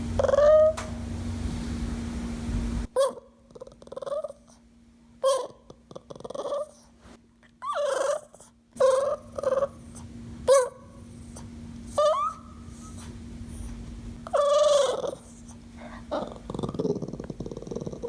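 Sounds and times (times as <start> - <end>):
dog whining: 0.2 - 0.9, 2.9 - 4.6, 5.2 - 18.0.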